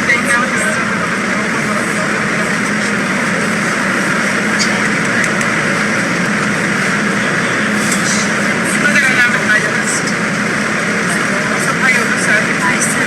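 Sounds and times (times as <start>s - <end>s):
subway wheels on rails: 0.0s - 13.0s.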